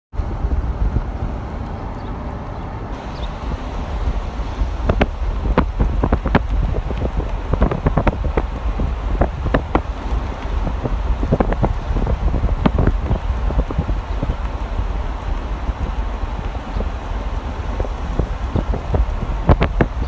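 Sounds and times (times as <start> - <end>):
wind buffeting microphone: 0.1 - 20.0.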